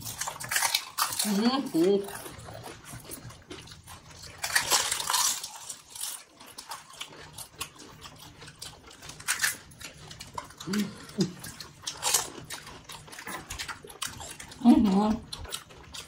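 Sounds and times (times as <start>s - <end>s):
crisp shells crunching: 0.0s - 14.6s.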